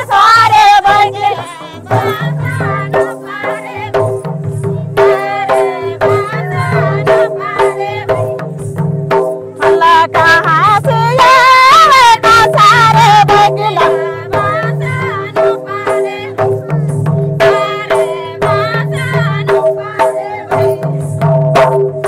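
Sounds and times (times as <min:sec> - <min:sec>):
barrel drums beating: 0:00.0 - 0:22.0.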